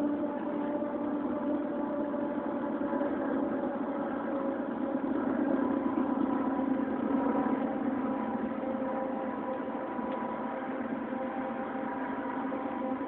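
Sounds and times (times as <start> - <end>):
loud droning hum: 0.0 - 13.0.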